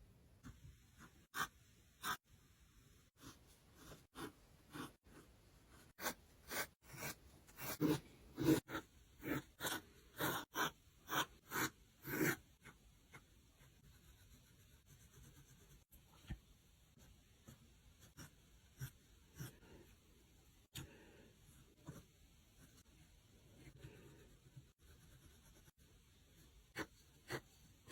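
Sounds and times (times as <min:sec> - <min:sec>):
pencil scratching on paper: 0:00.4 - 0:02.3, 0:03.1 - 0:20.0, 0:21.4 - 0:27.9.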